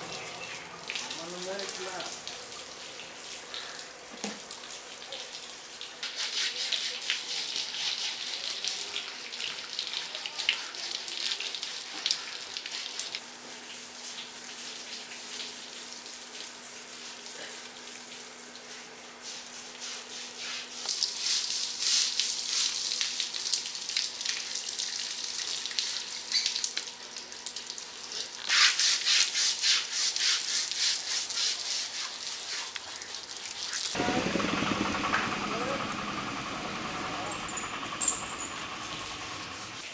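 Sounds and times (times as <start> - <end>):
hose water splashing: 0.0 - 36.5.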